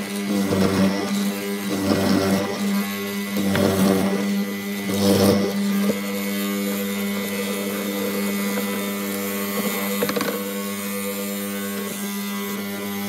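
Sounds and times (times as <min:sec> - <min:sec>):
mortiser motor hum: 0:00.0 - 0:13.0.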